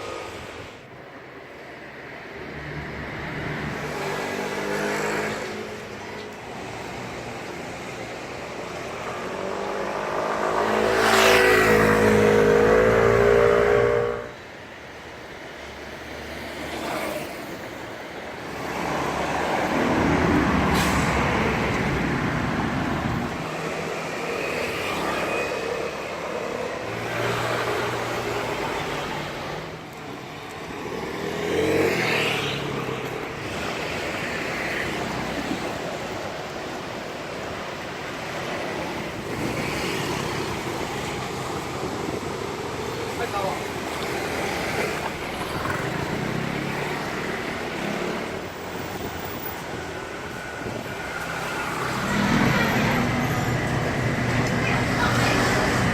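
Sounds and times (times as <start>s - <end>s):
steady traffic hum: 0.0s - 55.9s
vehicles passing: 0.0s - 55.9s.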